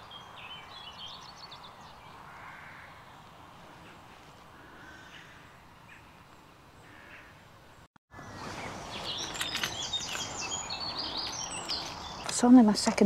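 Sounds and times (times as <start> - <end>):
faint bird calls: 0.0 - 12.3
high chirping birdsong: 0.0 - 13.0.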